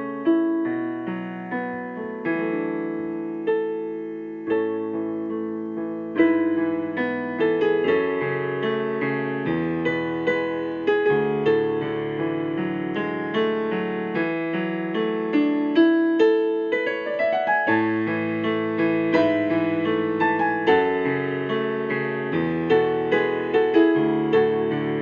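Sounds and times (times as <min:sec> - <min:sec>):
slow gentle solo piano: 0:00.0 - 0:25.0.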